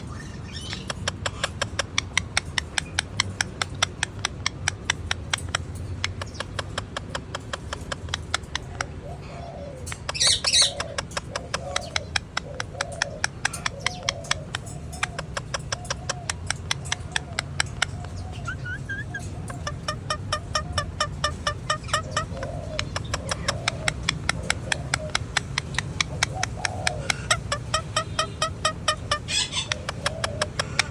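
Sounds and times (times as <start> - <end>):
parakeet squawking and chattering: 0.0 - 30.9
fast even ticking: 0.5 - 9.0, 9.9 - 30.9.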